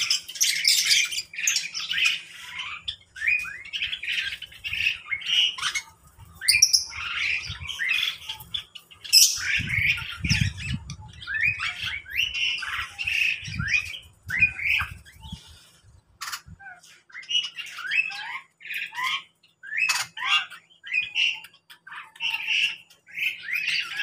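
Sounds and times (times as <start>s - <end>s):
cage birds squawking and chirping: 0.0s - 24.0s.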